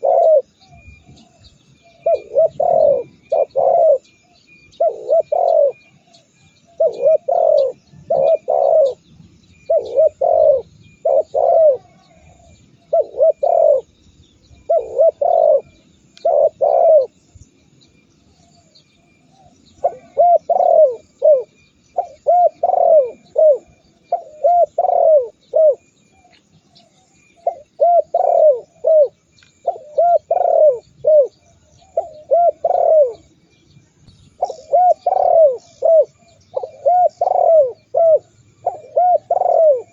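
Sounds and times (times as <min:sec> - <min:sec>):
dove cooing: 0:00.0 - 0:13.9, 0:14.5 - 0:17.2, 0:19.3 - 0:33.4, 0:34.4 - 0:39.9
small birds chirping: 0:00.0 - 0:39.9.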